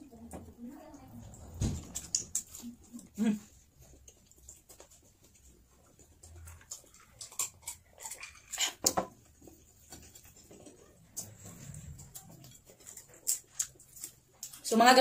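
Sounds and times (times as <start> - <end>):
wet chewing and lip smacks: 1.8 - 14.7.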